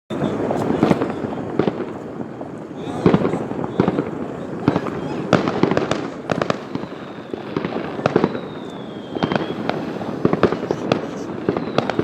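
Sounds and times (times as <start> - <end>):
firework whistle: 0.1 - 12.0
fireworks bangs and crackles: 0.1 - 12.0.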